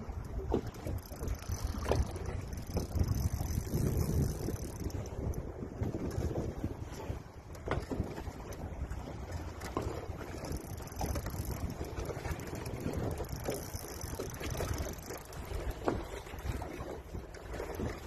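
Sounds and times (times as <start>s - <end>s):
water slapping against boat hull: 0.0s - 18.0s
wind buffeting microphone: 0.0s - 18.0s.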